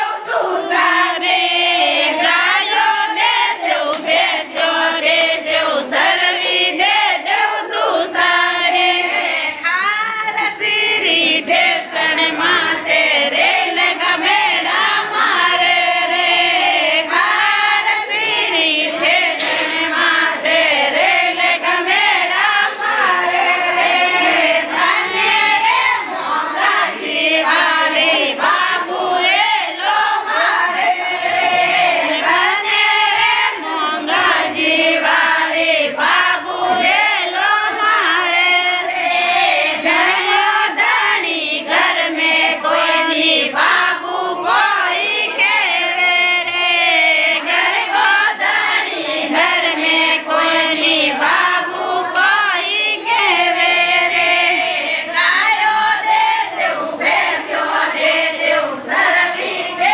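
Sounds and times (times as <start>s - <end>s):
women singing together: 0.0s - 59.9s.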